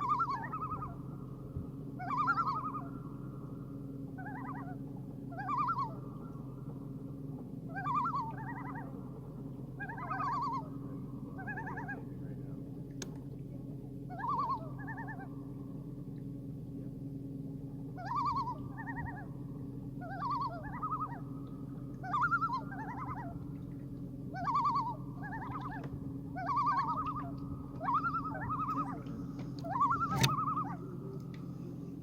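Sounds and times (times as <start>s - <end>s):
loons tremolo calls: 0.0s - 32.0s
low hum: 0.0s - 32.0s.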